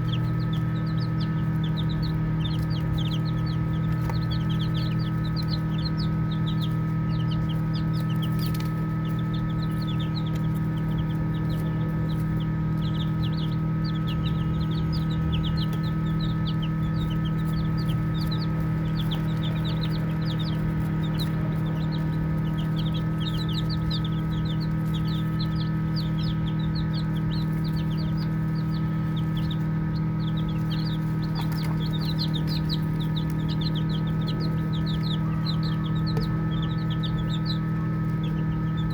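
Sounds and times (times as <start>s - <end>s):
baby chicks peeping: 0.0s - 38.9s
steady low hum: 0.0s - 38.9s.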